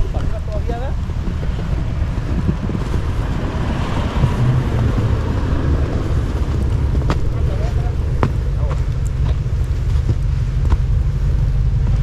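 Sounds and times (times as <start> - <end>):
vehicle engine running: 0.0 - 12.0
wind buffeting microphone: 0.0 - 12.0.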